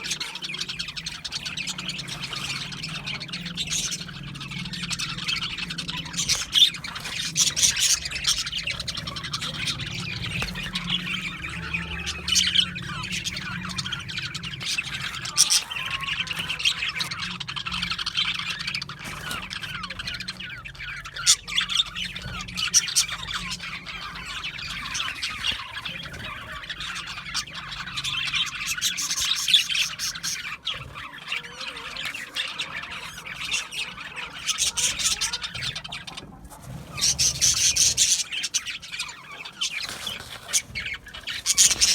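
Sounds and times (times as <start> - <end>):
budgerigar squawks: 0.0 - 41.9
budgerigars chattering and chirping: 0.0 - 41.9.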